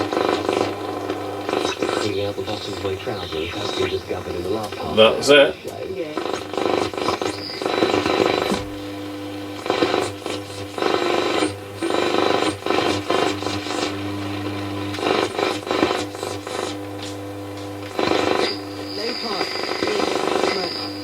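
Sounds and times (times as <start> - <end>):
radio low hum: 0.0 - 21.0
radio stations and static: 0.0 - 21.0.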